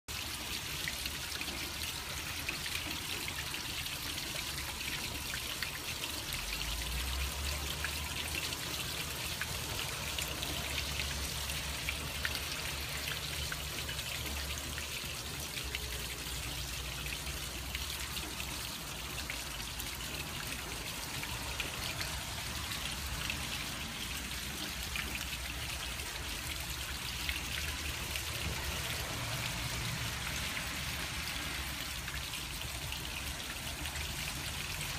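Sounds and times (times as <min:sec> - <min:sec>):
rain dripping: 0:00.1 - 0:34.9
water trickling down rain chain: 0:00.1 - 0:34.9.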